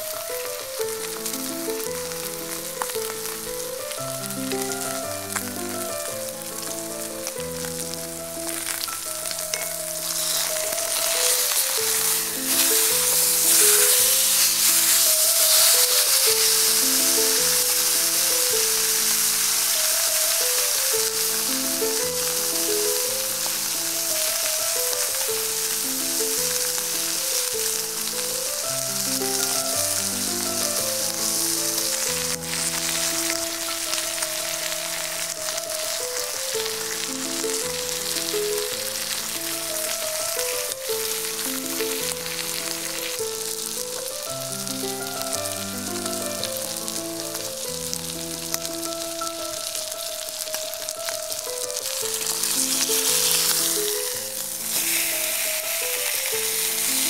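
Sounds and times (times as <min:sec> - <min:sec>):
soft background music: 0:00.0 - 0:57.0
steak sizzling in a skillet: 0:00.0 - 0:57.0.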